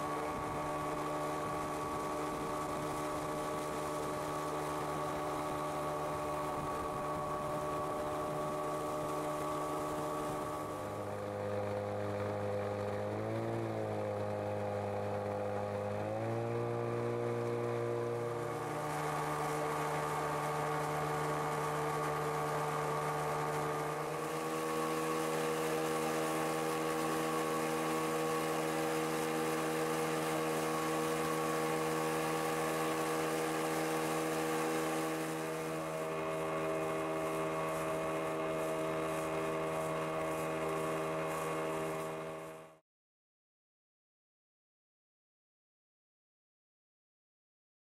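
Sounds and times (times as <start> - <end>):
motorboat engine running: 0.0 - 42.8.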